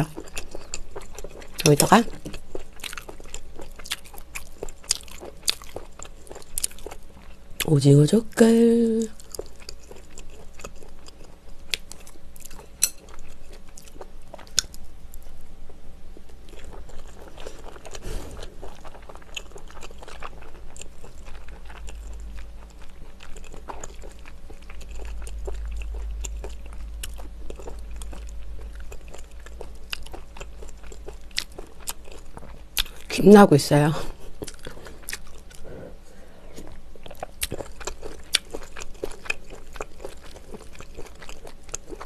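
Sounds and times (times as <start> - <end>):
wet chewing sounds: 0.0 - 7.7, 9.2 - 15.4, 16.2 - 33.2, 34.0 - 42.0.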